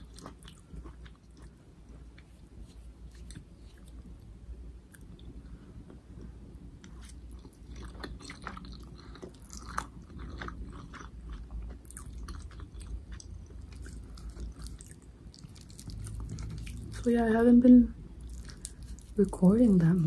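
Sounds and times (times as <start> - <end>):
person chewing noodles: 0.0 - 4.2, 4.9 - 17.0, 18.2 - 19.2.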